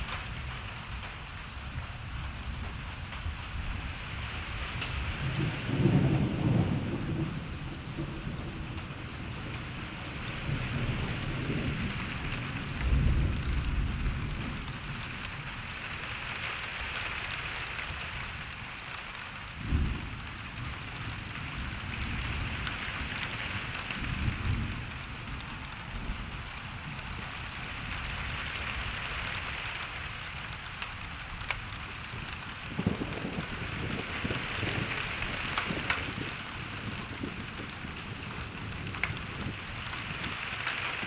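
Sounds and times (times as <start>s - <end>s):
thunder rumbling: 0.0s - 16.7s, 17.8s - 41.0s
steady rain hiss: 0.0s - 41.0s.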